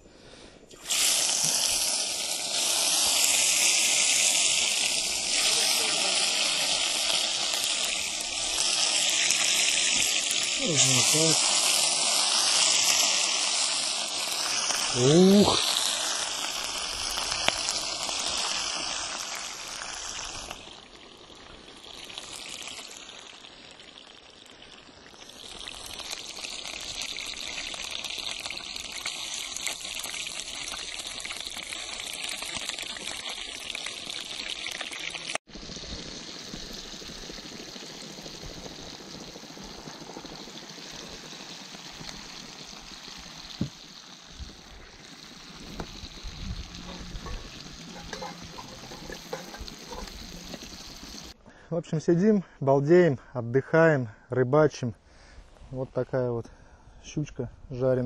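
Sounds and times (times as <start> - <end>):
fish sizzling in a frying pan: 0.7 - 51.4.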